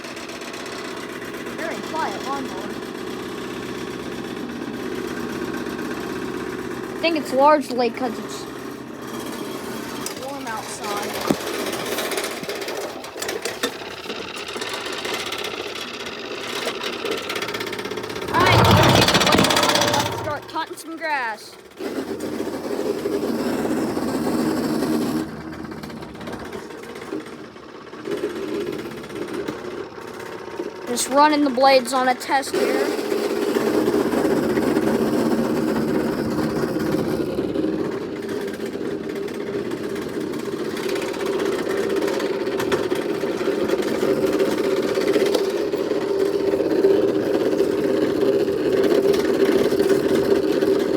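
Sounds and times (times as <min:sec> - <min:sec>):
lawnmower engine running: 0:00.0 - 0:50.9.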